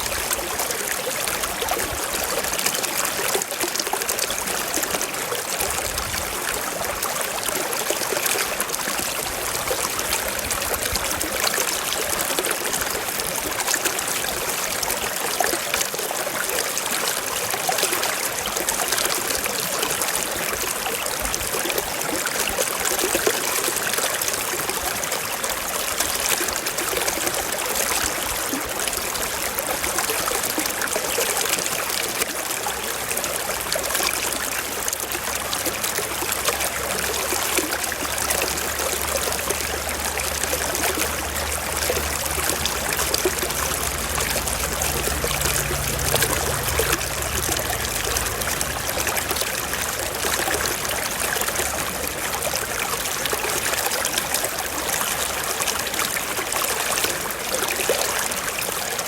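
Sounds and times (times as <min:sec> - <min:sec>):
stream trickling over rocks: 0:00.0 - 0:59.0.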